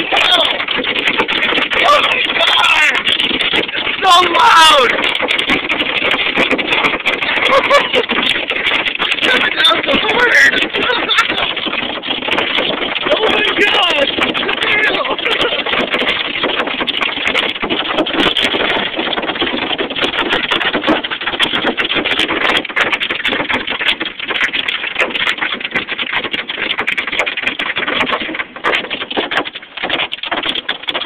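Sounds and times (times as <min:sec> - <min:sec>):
hailstones pelting: 0:00.0 - 0:31.0.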